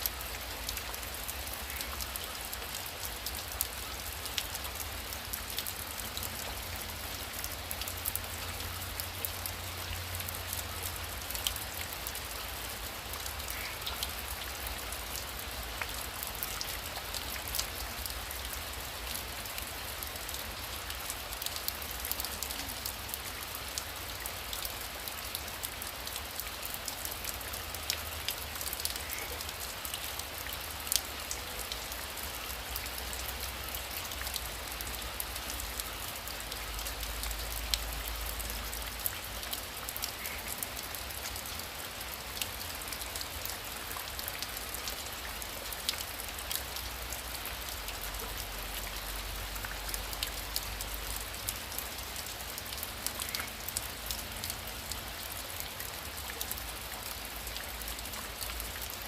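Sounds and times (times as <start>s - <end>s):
heavy rain falling: 0.0s - 59.0s
raindrops ticking on a surface: 0.0s - 59.0s.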